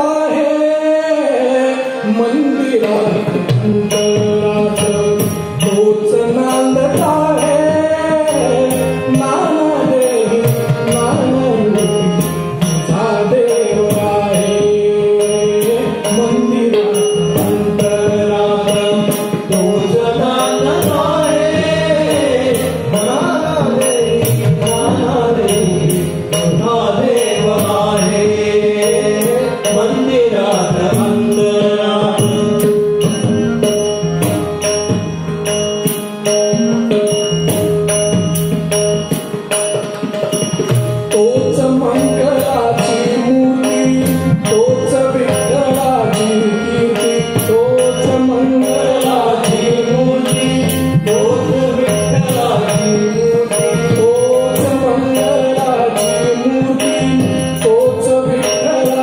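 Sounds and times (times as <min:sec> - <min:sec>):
man singing: 0:00.0 - 0:35.0, 0:39.6 - 0:59.0
harmonium: 0:00.0 - 0:59.0
tabla beat: 0:00.0 - 0:59.0.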